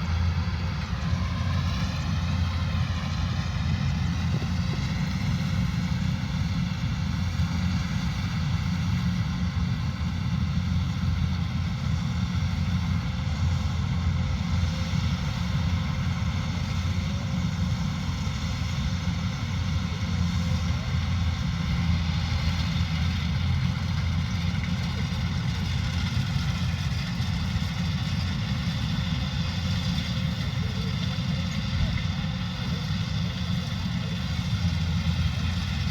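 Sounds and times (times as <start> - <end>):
combine harvester engine drone: 0.0 - 35.9.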